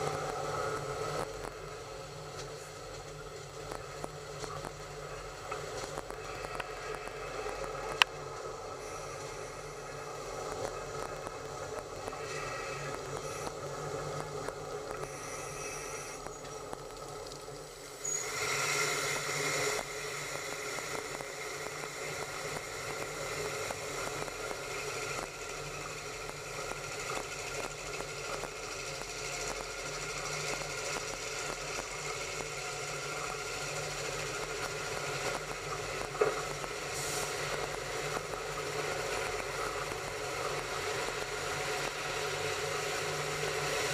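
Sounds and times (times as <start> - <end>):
train rumbling along track: 0.0 - 43.9.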